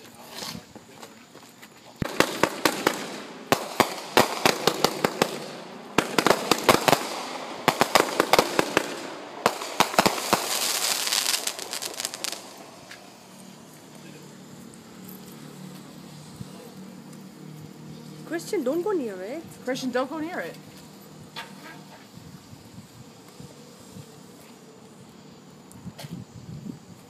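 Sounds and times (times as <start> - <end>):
firecrackers banging: 0.0 - 22.4
hissing crackle: 0.0 - 27.0.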